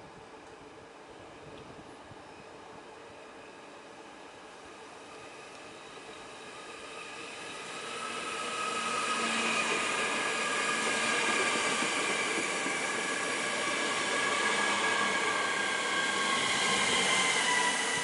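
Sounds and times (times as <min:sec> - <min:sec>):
electric train passing: 0:02.3 - 0:18.0.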